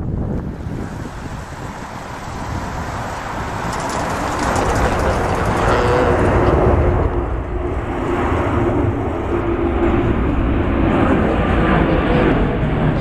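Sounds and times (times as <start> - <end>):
jet airliner roar overhead: 0.0 - 13.0.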